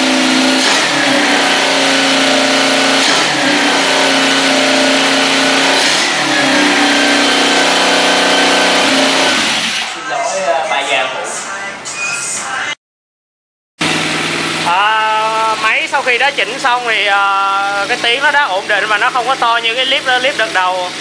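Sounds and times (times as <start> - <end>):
motorcycle engine running: 0.0 - 9.7, 13.8 - 21.0.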